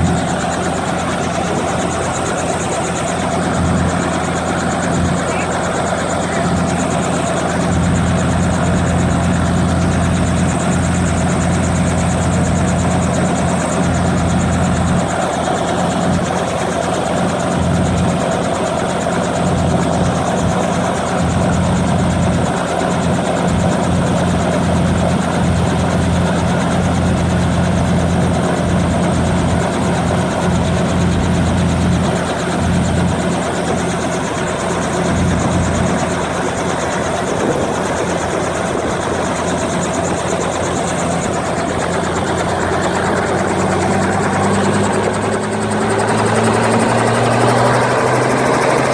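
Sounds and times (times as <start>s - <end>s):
helicopter engine and rotor: 0.0s - 48.9s.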